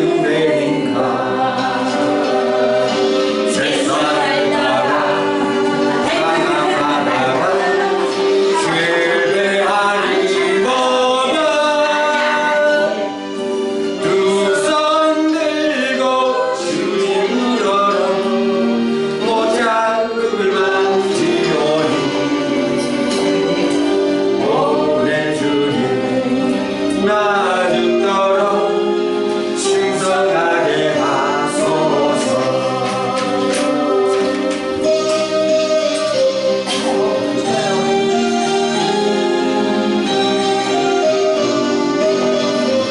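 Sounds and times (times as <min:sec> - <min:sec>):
sustained musical accompaniment: 0:00.0 - 0:42.9
voices singing gospel song: 0:00.0 - 0:42.9.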